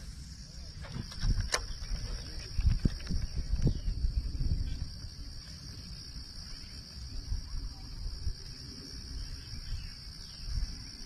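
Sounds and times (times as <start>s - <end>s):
insect chorus trilling: 0.0s - 11.0s.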